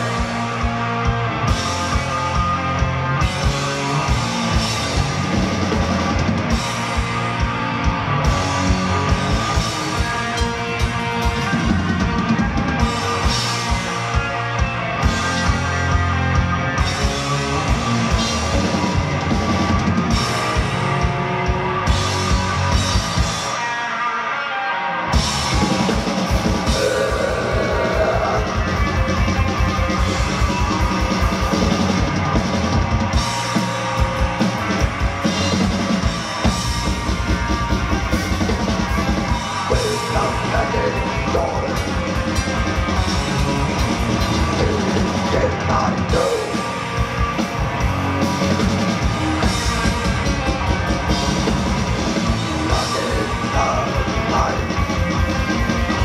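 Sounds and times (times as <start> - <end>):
distorted electric guitars: 0.0 - 56.0.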